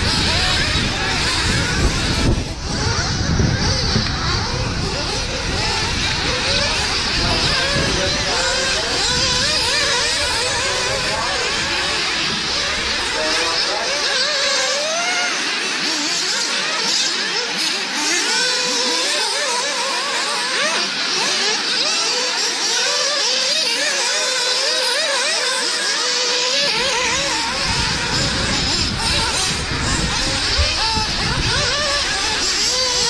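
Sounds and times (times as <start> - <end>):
radio-controlled buggy engines whining: 0.0 - 33.0.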